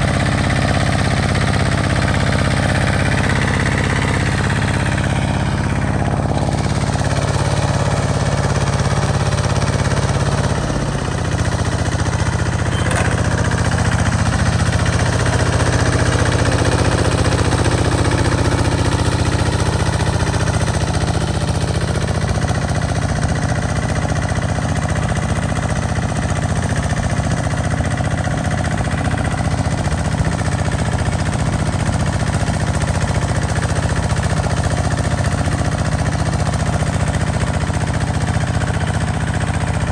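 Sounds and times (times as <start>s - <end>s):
walking tractor engine running: 0.0s - 39.9s.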